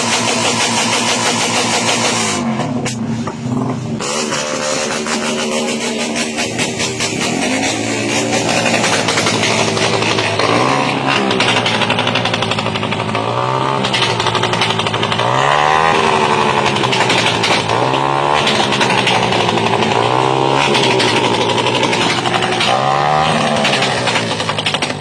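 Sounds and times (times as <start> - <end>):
engine revving with rough exhaust: 0.0 - 25.0.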